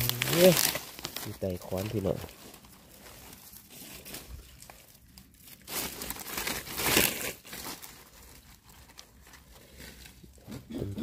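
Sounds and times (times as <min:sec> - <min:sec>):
leaves and twigs crackling: 0:00.0 - 0:10.2.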